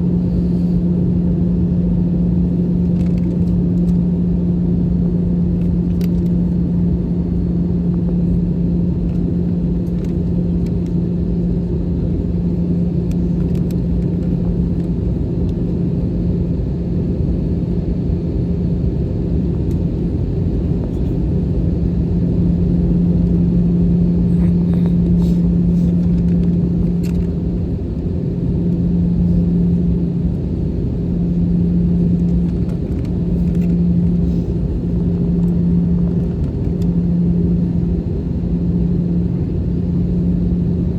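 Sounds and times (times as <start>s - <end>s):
airplane cabin engine drone: 0.0s - 40.9s
constant hum: 0.0s - 40.9s.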